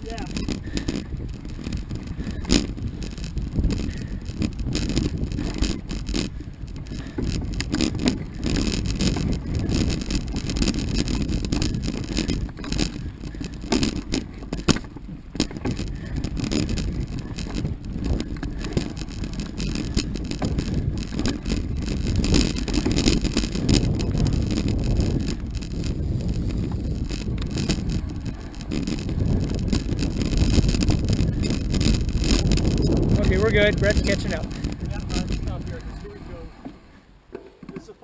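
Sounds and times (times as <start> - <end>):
bike clattering over bumps: 0.0 - 38.0
tyres rumbling over dirt: 0.0 - 38.0.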